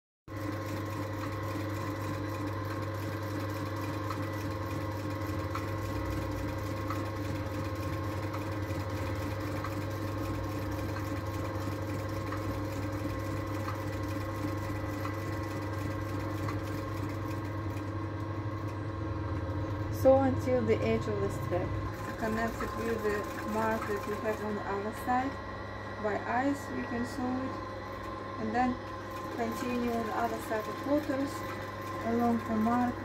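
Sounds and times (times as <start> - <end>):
sewing machine humming: 0.3 - 33.0.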